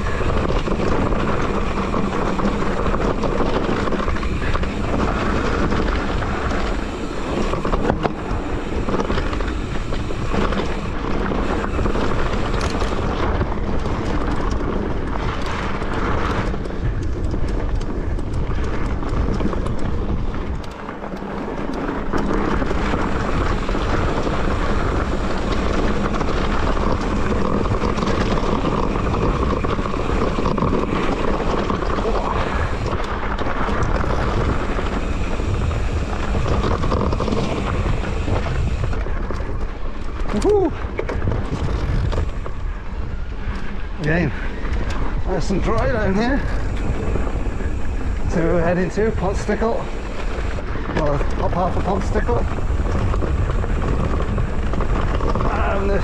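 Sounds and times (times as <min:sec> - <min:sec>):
bike knocks and rattles: 0:00.0 - 0:56.0
steady rumble: 0:00.0 - 0:56.0
wind buffeting microphone: 0:00.0 - 0:56.0.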